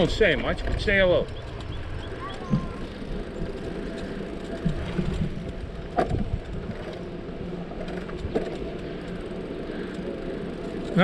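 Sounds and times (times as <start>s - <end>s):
bicycles rolling over pavement: 0.0s - 11.0s.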